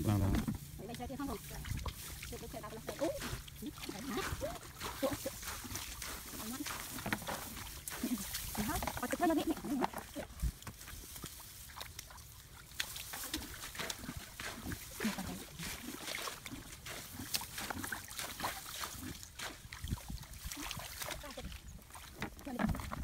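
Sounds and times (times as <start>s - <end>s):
grass stalks rustling and crackling: 0.0s - 19.6s
hands working in wet mud: 0.0s - 23.0s.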